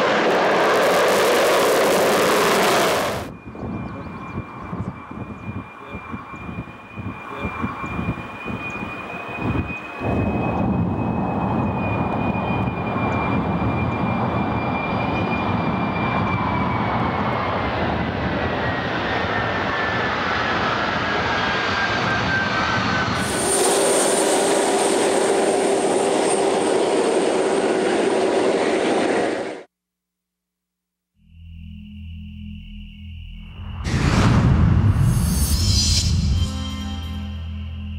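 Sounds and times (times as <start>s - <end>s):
jet engine running: 0.0s - 29.7s, 33.5s - 37.9s.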